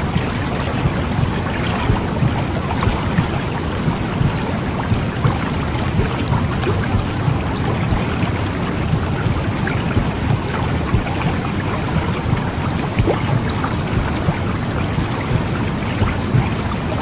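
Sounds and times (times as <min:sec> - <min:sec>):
low rushing womb noise: 0:00.0 - 0:17.0.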